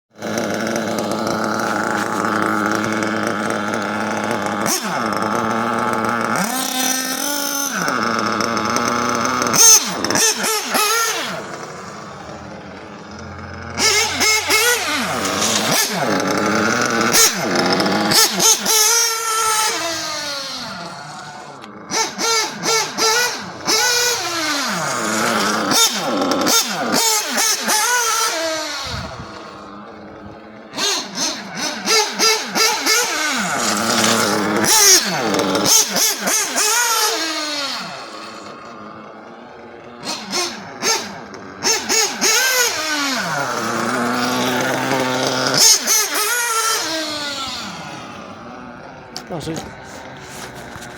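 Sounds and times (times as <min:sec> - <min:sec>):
small nitro engine revving: 0:00.1 - 0:50.9.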